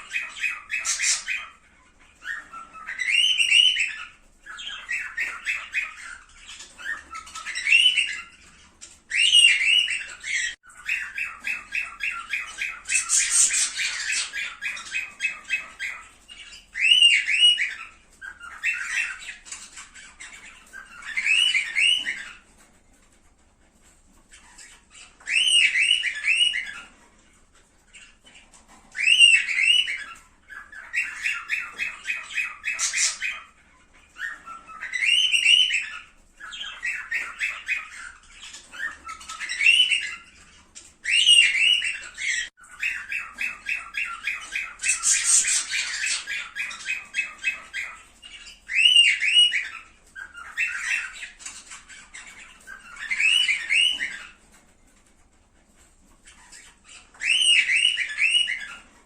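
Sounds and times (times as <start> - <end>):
cockatiels chattering chirps: 0.0 - 59.0.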